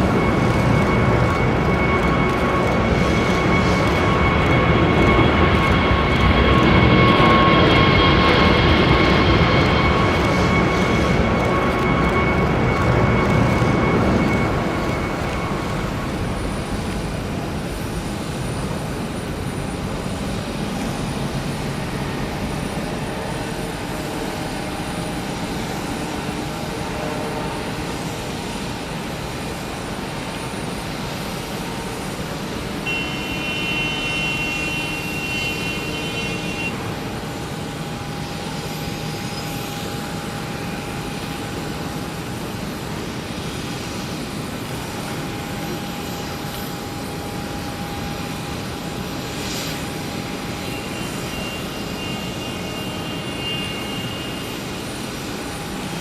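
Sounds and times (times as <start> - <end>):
high engine whine: 0.0 - 56.0
jet engines rushing: 0.0 - 56.0.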